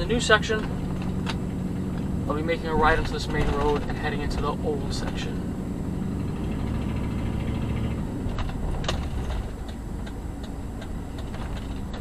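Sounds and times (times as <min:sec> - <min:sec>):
car engine and road rumble: 0:00.0 - 0:12.0
turn signal ticking: 0:00.0 - 0:12.0.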